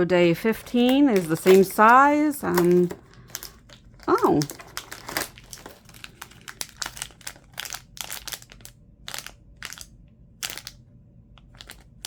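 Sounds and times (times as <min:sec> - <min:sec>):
packaging crinkling: 0:00.2 - 0:10.8, 0:11.4 - 0:12.0.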